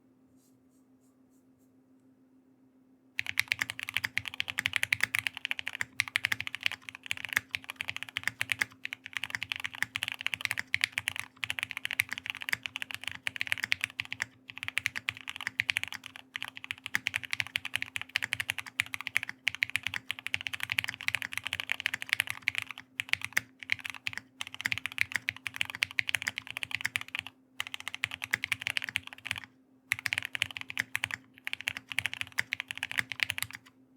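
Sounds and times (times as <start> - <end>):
mechanical keyboard typing: 3.2 - 33.7.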